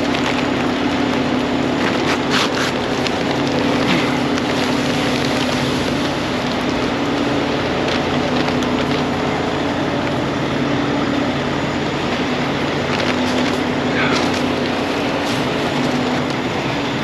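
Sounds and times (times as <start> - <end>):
engine running pump: 0.0 - 17.0.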